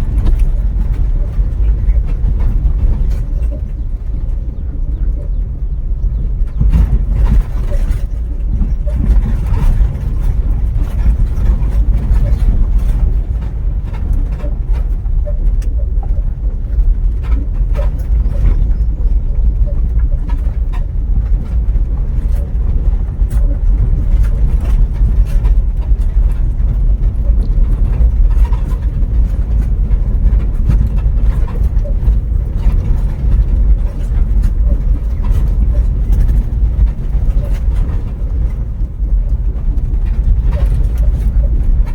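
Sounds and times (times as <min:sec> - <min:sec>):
vehicle road rumble: 0:00.0 - 0:41.9.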